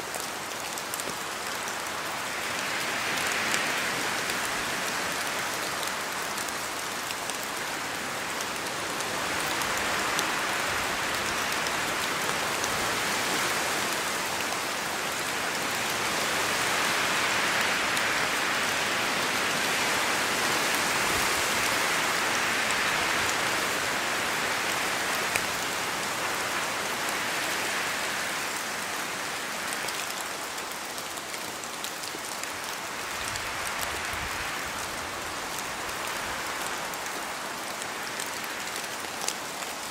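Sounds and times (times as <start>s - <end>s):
steady rain: 0.0s - 39.9s
wind in branches: 0.0s - 39.9s.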